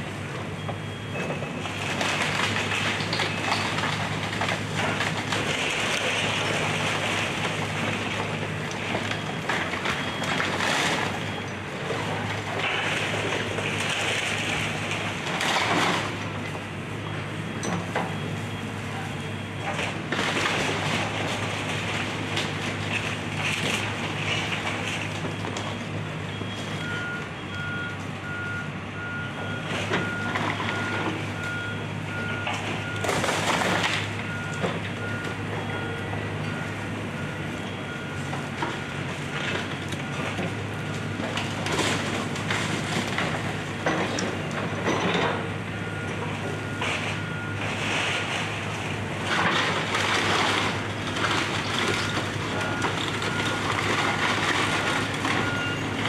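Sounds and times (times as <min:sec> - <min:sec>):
diesel heavy equipment running: 0:00.0 - 0:56.0
debris crunching and crashing: 0:01.2 - 0:16.9, 0:19.1 - 0:27.1, 0:29.9 - 0:56.0.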